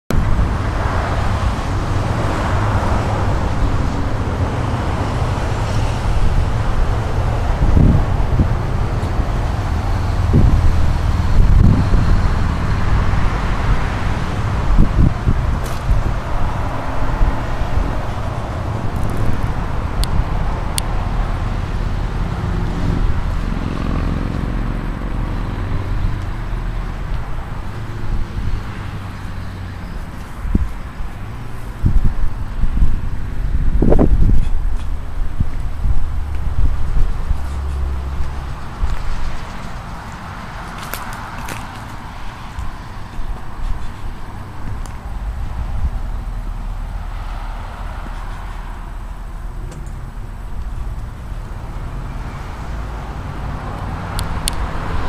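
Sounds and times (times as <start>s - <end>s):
riding mower engine humming: 0.1s - 55.0s.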